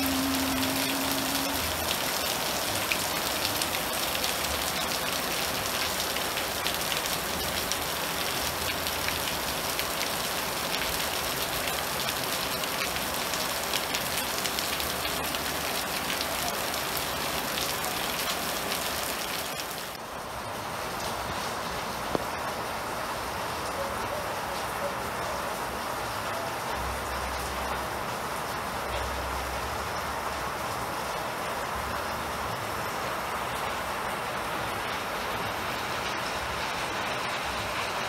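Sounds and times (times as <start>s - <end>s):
rain falling on foliage: 0.0s - 38.0s
raindrops ticking close by: 0.0s - 38.0s.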